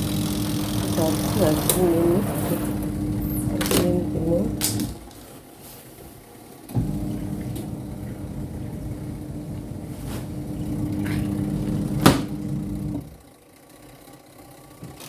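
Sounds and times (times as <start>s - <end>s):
spin-dryer motor humming: 0.0s - 15.0s.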